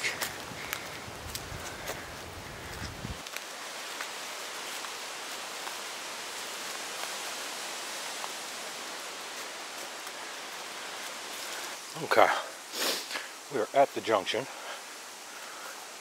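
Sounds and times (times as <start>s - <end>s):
outdoor ambient hiss: 0.0s - 16.0s.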